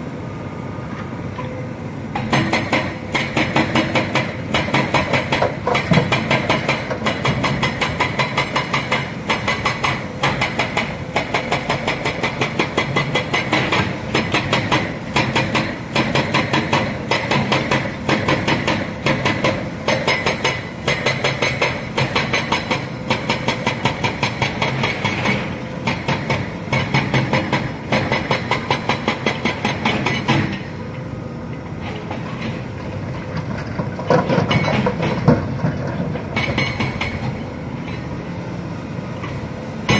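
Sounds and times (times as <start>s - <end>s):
excavator clattering: 1.4s - 38.2s.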